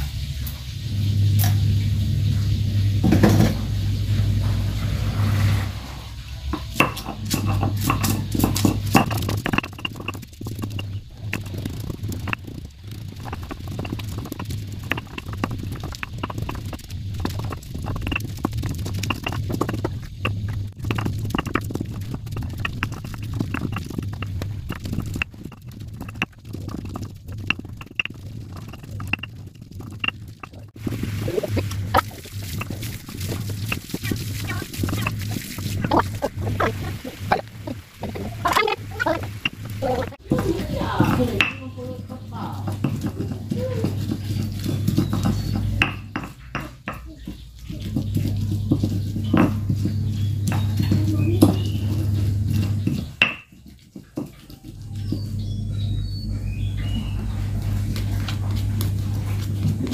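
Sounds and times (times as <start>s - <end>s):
steady low hum: 0.0s - 59.9s
stone pestle knocking and scraping: 6.5s - 41.9s, 42.5s - 55.6s.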